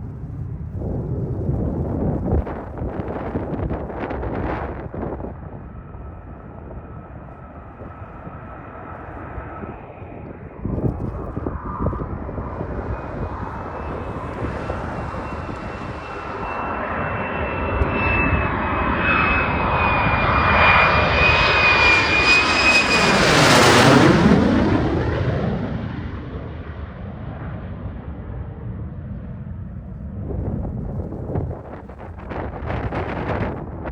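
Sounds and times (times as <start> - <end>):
fighter jet engine passing: 0.0 - 33.9.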